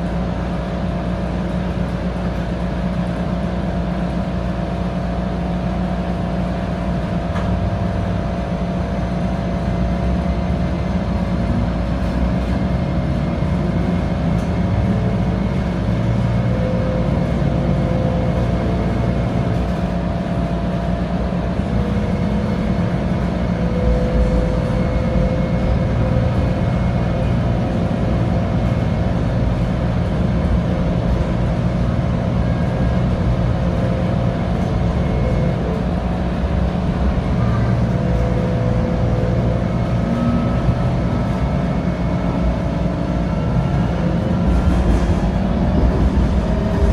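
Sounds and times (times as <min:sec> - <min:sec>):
light rail car humming: 0:00.0 - 0:46.9
running gear rumble: 0:07.1 - 0:46.9.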